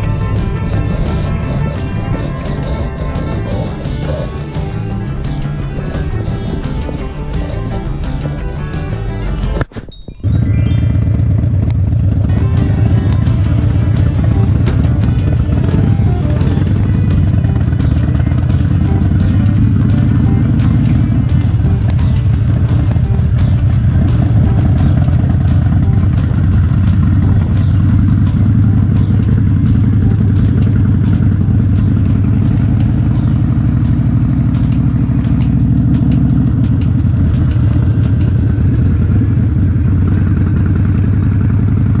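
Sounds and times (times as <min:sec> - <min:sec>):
motorcycle engine running: 0:00.0 - 0:09.7, 0:10.7 - 0:42.0.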